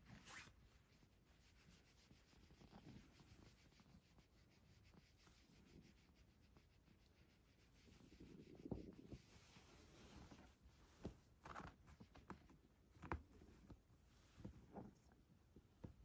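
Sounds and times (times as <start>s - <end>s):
hand rubbing cat fur: 0.0s - 16.0s.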